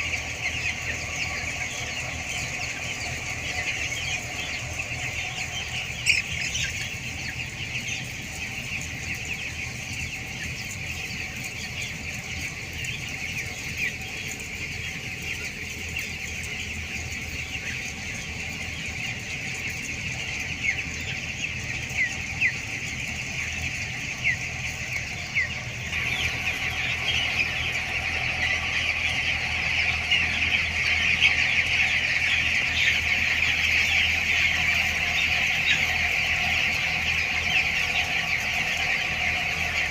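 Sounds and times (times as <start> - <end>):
chicks peeping and chirping: 0.0 - 39.9
steady low hum: 0.0 - 39.9.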